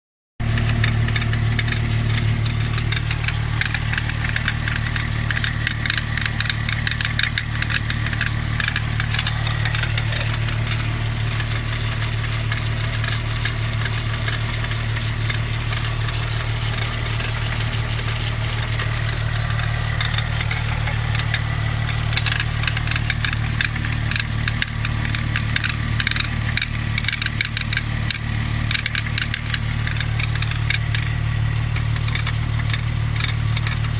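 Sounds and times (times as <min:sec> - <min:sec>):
high whine: 0:00.4 - 0:33.8
car engine idling: 0:00.4 - 0:33.9
fast ticking rattle: 0:00.4 - 0:33.9.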